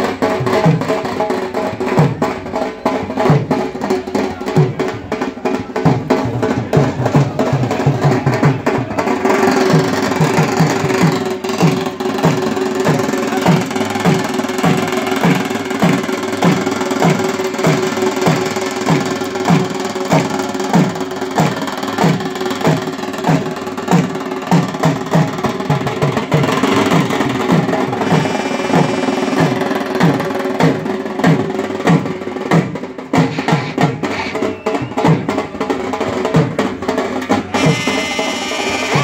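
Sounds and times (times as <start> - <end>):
drum beating fast: 0.0 - 39.0.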